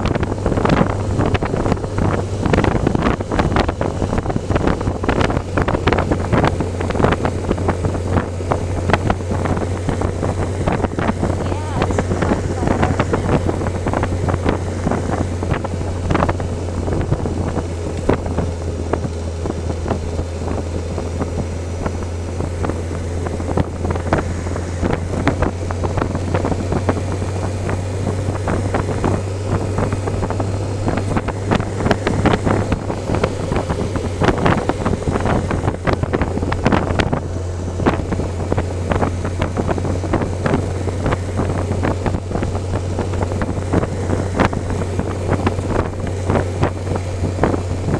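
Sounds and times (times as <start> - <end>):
motorcycle engine drone: 0.0 - 47.9
wind buffeting microphone: 0.0 - 47.9.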